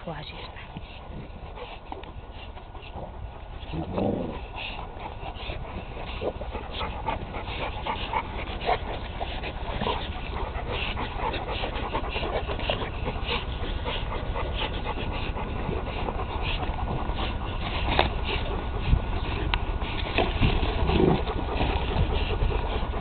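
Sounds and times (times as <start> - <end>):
dog panting: 0.0 - 23.0
dogs scuffling: 0.0 - 23.0.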